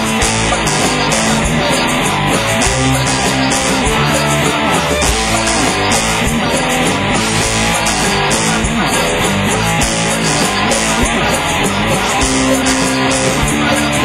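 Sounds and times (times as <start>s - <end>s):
drum kit with crashing cymbals: 0.0s - 14.0s
electric guitar: 0.0s - 14.0s.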